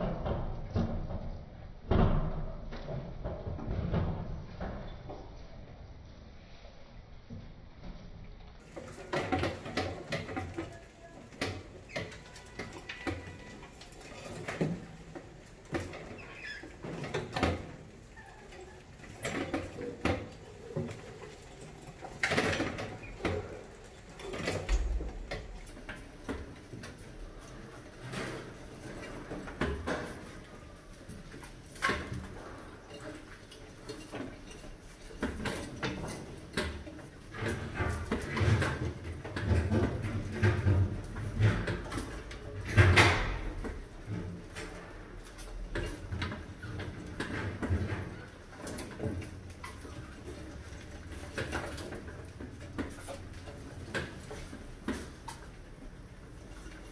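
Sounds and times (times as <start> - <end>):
mice scrabbling: 8.6 - 56.9.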